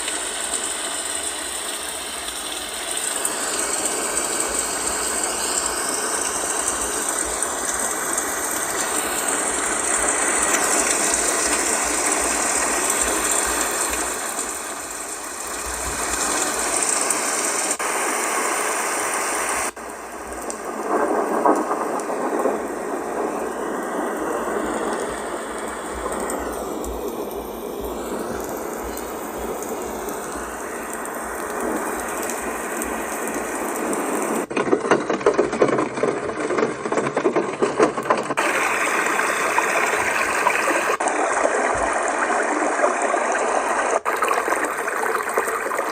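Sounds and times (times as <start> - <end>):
white noise machine crackly noise: 0.0 - 45.9.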